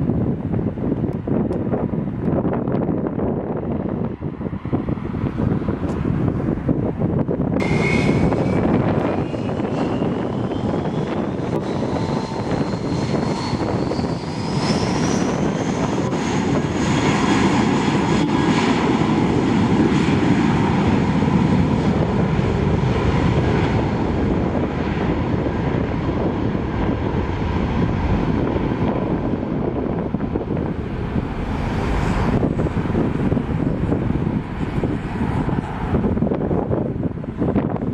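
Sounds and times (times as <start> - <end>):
airliner engines roaring and whining: 0.0 - 37.9.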